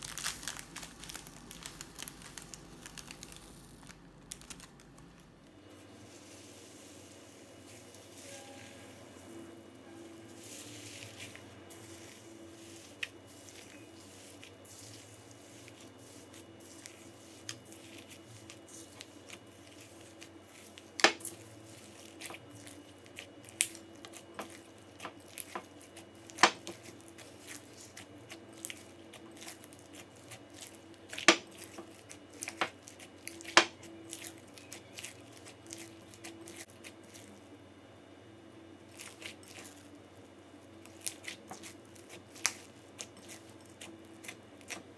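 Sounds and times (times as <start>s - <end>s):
slime crackling and popping: 0.0s - 5.6s, 10.5s - 37.3s, 40.7s - 44.9s.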